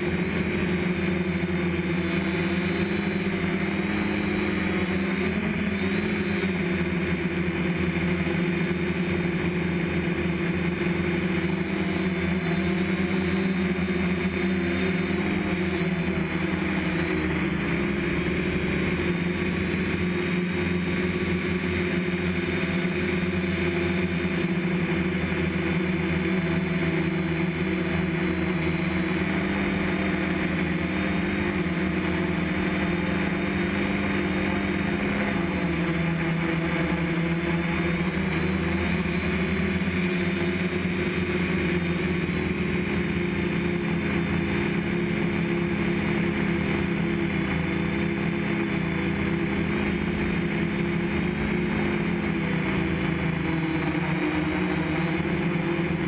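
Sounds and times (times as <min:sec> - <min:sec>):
drone propellers humming: 0:00.0 - 0:56.0.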